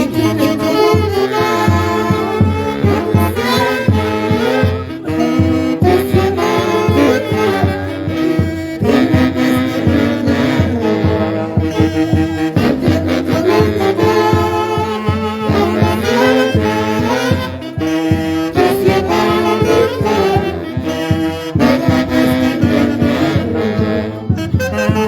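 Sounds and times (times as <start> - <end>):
dance orchestra with saxophones and brass: 0.0 - 25.0.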